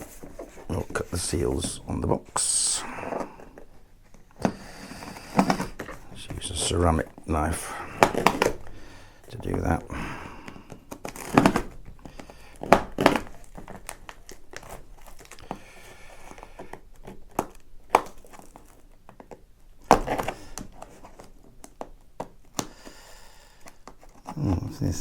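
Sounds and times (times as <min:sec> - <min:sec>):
packaging crinkling and tearing: 0:00.0 - 0:09.8, 0:10.4 - 0:22.7
knocks and handling noise: 0:00.0 - 0:22.8.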